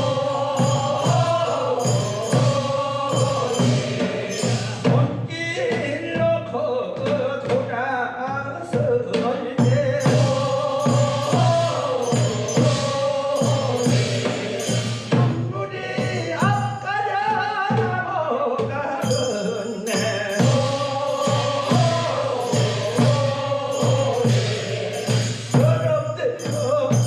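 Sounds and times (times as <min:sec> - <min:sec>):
drum beating steady pulse: 0:00.0 - 0:07.3, 0:08.8 - 0:17.0, 0:18.7 - 0:27.0
men singing in chorus: 0:00.0 - 0:27.0.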